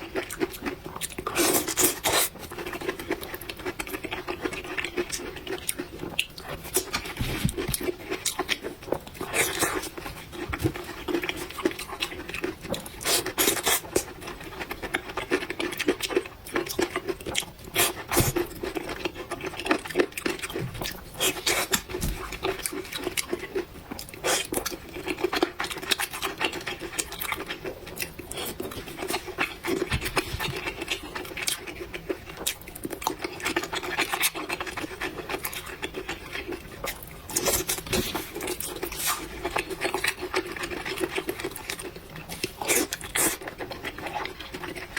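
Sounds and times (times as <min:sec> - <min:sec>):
person chewing noodles: 0:00.0 - 0:44.9.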